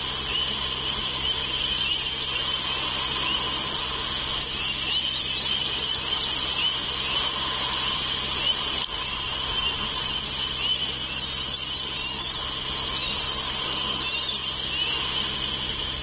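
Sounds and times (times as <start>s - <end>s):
faint chirps: 0.0s - 16.0s
high-pitched hiss: 0.0s - 16.0s
low electrical hum: 0.0s - 16.0s.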